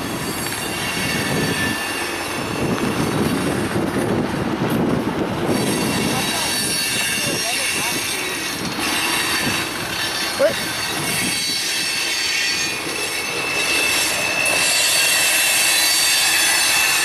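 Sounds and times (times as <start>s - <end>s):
high steel-wheel squeal: 0.0s - 4.1s, 5.4s - 17.0s
freight train cars rolling: 0.0s - 17.0s.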